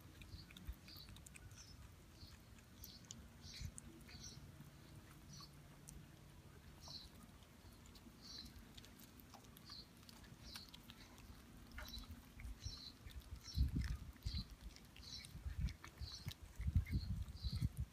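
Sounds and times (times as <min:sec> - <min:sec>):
bird chirping: 0:00.0 - 0:17.8
faint wet clicks: 0:00.0 - 0:17.9
kittens chewing on bone: 0:00.0 - 0:17.9.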